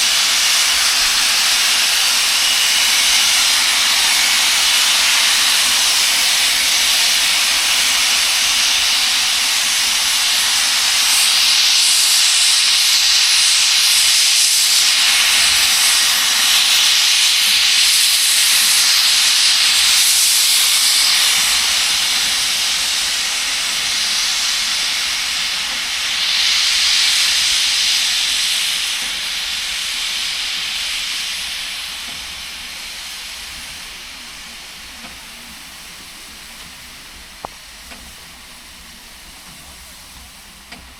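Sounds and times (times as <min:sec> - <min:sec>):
steam locomotive venting steam: 0:00.0 - 0:40.9.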